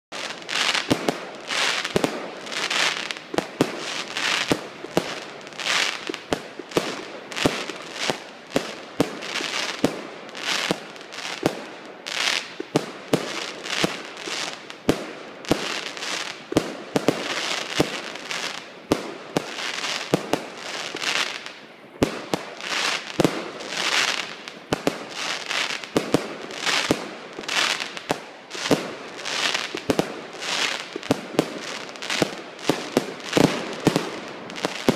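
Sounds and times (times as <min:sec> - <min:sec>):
crackle of bursting fireworks: 0:00.1 - 0:34.9
firework bangs: 0:00.1 - 0:34.9.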